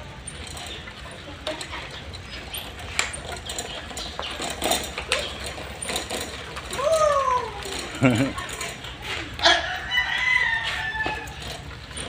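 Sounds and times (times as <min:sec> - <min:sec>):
plastic tricycle rattling on concrete: 0:00.0 - 0:12.0.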